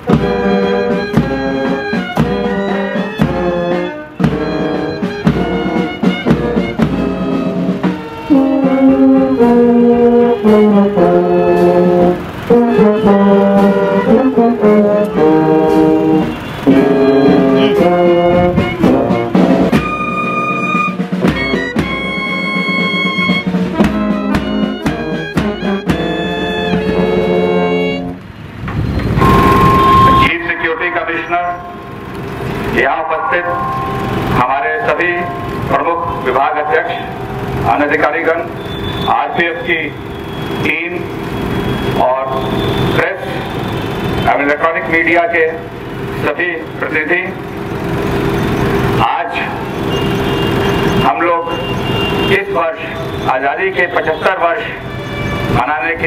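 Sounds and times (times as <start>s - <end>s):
brass band playing: 0.0s - 28.2s, 29.2s - 56.0s.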